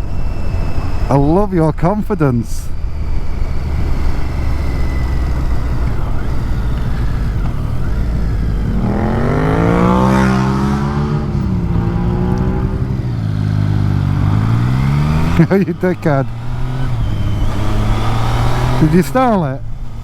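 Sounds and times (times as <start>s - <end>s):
road and wind noise: 0.0s - 20.0s
motorcycle engine revving: 2.5s - 20.0s.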